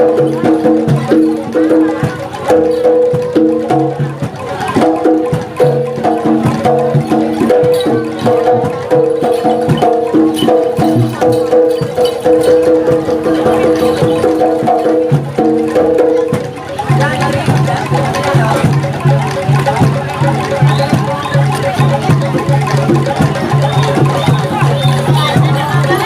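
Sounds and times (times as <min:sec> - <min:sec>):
drum and wood-block strokes: 0:00.0 - 0:26.0
metal percussion melody: 0:00.0 - 0:26.0.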